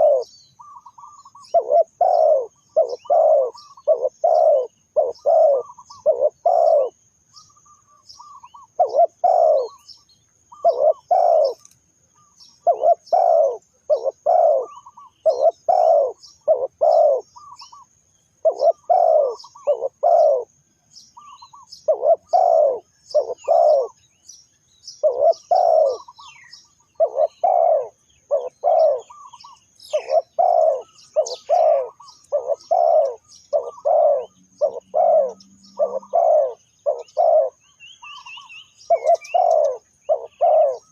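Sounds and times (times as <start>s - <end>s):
doves cooing: 0.0s - 20.6s, 21.2s - 24.0s, 25.0s - 40.9s
faint high chirping of small birds: 0.0s - 40.9s.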